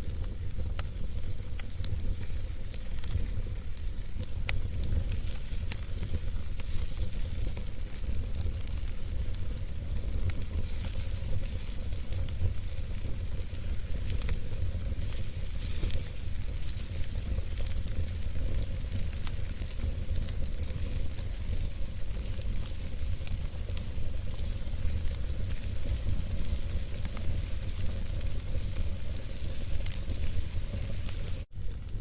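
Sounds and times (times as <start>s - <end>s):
fire hissing and rumbling: 0.0s - 32.0s
small crackles and pops: 0.0s - 32.0s.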